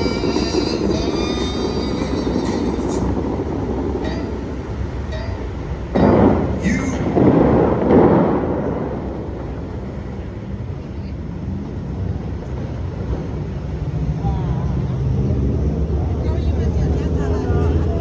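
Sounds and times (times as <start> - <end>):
rumble of falling water: 0.0 - 18.0
water jets booming: 0.0 - 18.0.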